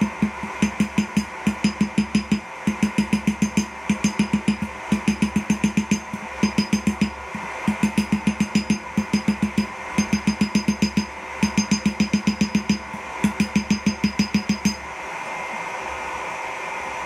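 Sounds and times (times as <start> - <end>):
anvil ringing: 0.0 - 14.8
hammer blows on steel: 0.0 - 14.9.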